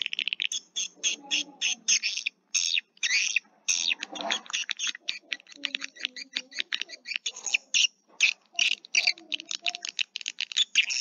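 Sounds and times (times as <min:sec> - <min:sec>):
swiftlets chattering: 0:00.0 - 0:11.0.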